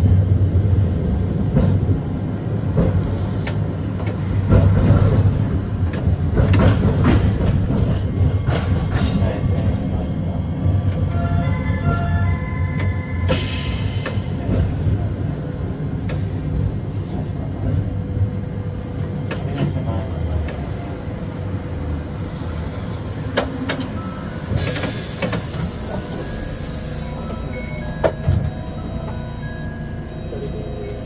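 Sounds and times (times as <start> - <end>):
tram rumbling: 0.0 - 31.0.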